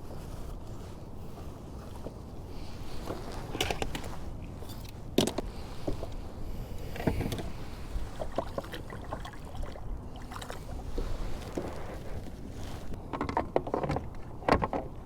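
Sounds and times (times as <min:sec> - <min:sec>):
water and wind on hull: 0:00.0 - 0:15.0.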